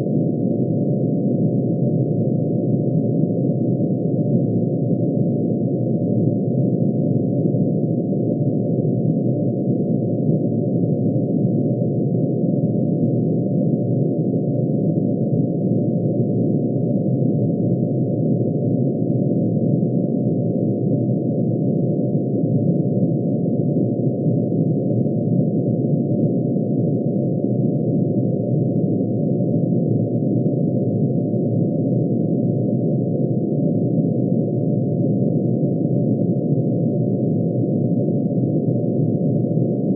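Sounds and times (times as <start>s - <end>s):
dense synthesized sine tone hum: 0.0s - 39.9s.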